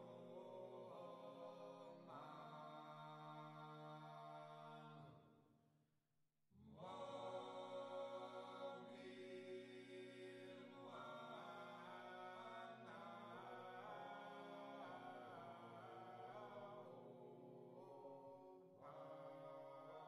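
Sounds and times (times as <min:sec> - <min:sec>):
slow vocal chant: 0:00.0 - 0:05.3, 0:06.6 - 0:20.0.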